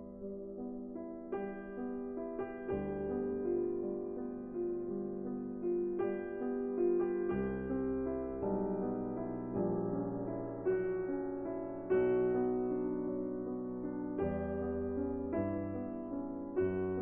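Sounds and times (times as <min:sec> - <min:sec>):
slow soft piano piece: 0:00.0 - 0:17.0.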